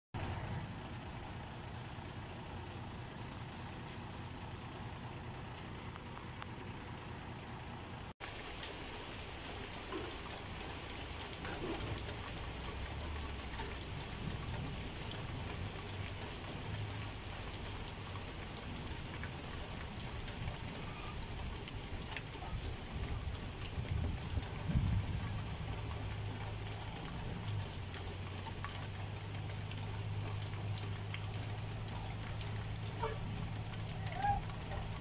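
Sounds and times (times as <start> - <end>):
steady rain falling: 0.2 - 35.0.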